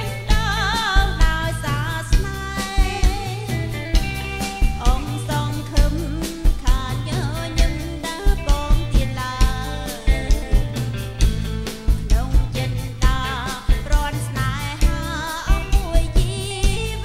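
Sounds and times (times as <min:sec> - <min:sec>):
live band playing: 0:00.0 - 0:17.0
woman singing: 0:00.0 - 0:17.0.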